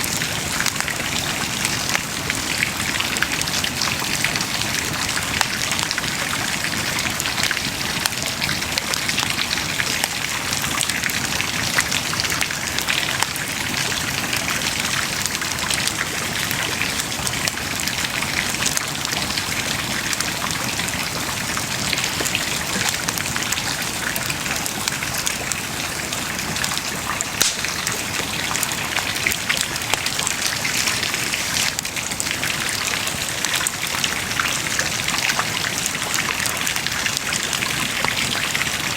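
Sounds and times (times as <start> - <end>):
bonfire crackling: 0.0 - 34.2.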